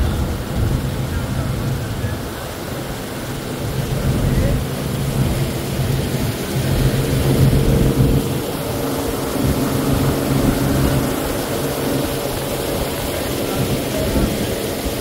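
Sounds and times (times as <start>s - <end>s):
engine humming: 0.0s - 15.0s
loud rushing noise: 0.0s - 15.0s.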